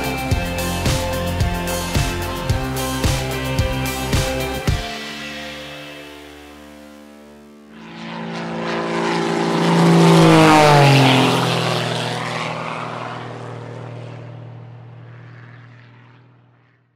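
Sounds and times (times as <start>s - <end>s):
propeller aircraft flying past: 0.0s - 16.9s.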